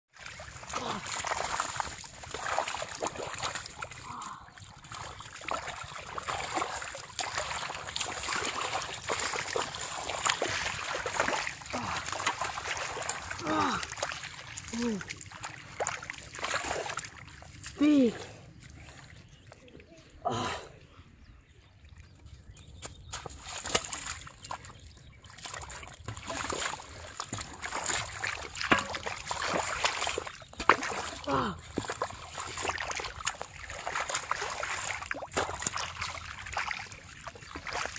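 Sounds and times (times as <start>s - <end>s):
muddy water splashing: 0.1s - 37.9s.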